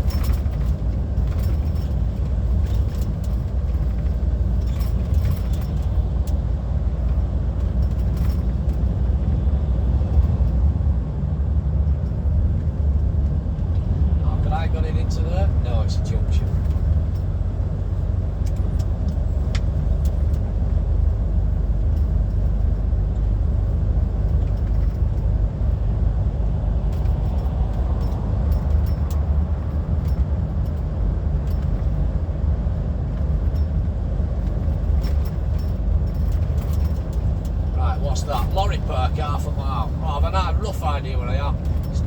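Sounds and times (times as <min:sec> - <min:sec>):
diesel truck engine droning: 0:00.0 - 0:42.0
road noise: 0:00.0 - 0:42.0.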